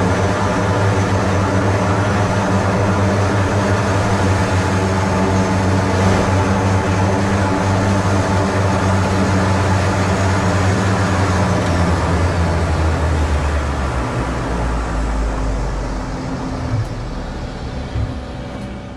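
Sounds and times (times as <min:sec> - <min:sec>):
propeller engines idling drone: 0:00.0 - 0:18.9.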